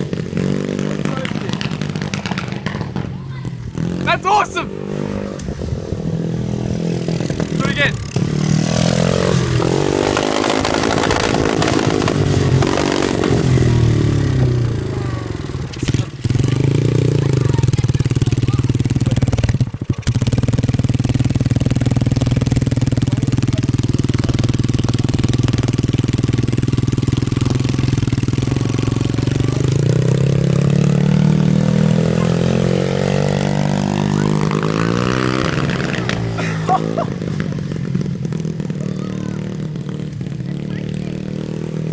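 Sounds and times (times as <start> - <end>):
pit bike engine revving: 0.0 - 41.9.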